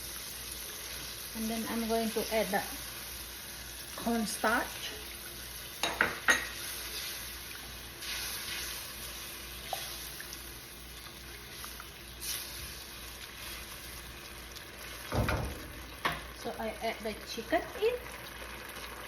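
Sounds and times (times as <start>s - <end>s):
sauce sizzling in a pan: 0.0s - 19.0s.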